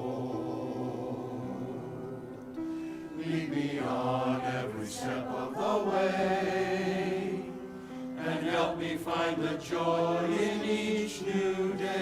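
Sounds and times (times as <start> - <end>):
group singing a hymn: 0.0 - 12.0.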